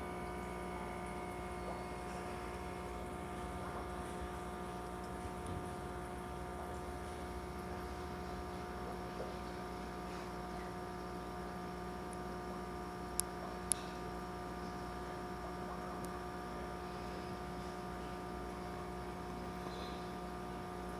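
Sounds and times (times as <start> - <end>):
aquarium air pump humming: 0.0 - 20.9.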